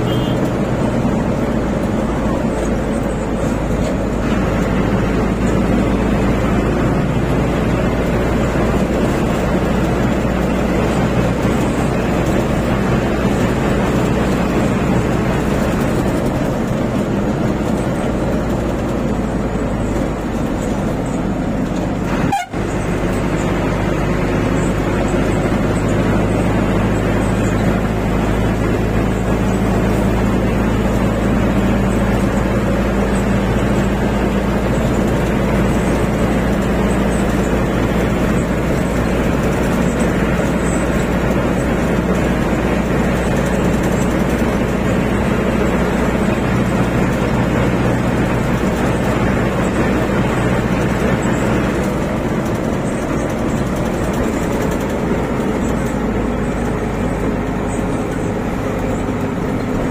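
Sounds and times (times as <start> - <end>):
van engine drone: 0.0 - 59.9.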